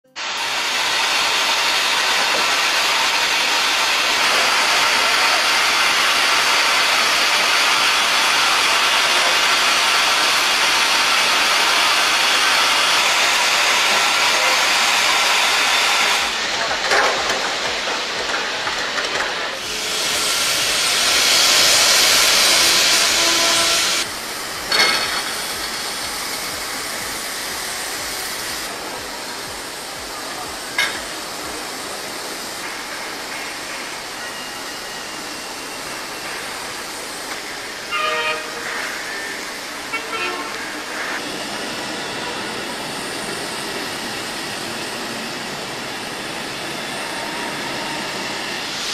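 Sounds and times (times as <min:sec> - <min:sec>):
steam hissing: 0:00.0 - 0:48.9.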